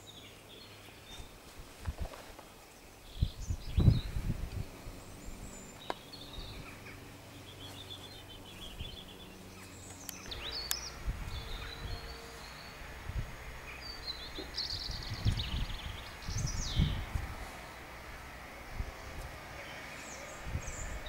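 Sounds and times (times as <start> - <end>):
songbirds chirping and twittering: 0.0 - 21.0
faint low drone: 3.0 - 21.0.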